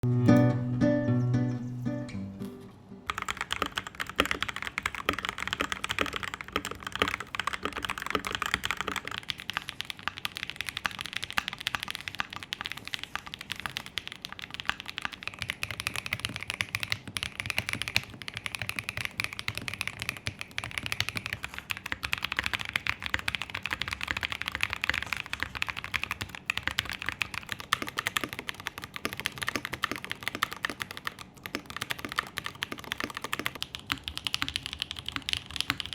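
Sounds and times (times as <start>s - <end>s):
fast typing on mechanical keyboard: 3.1s - 35.9s.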